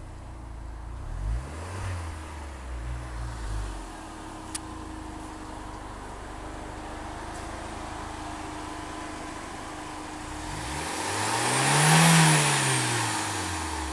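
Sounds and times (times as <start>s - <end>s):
car engine rumbling and revving: 0.0s - 13.9s.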